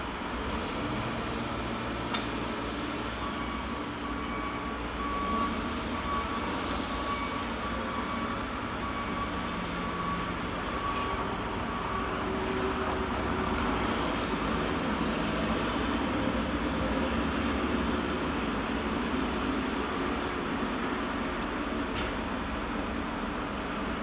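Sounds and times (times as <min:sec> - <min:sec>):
heavy machinery drone: 0:00.0 - 0:24.0.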